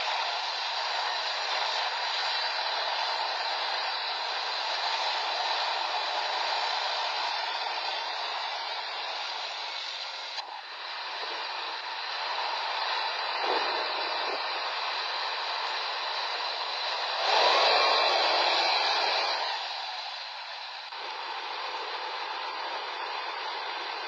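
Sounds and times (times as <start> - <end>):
film sound hiss: 0.0 - 24.0
tank diesel engine and tracks: 0.0 - 24.0.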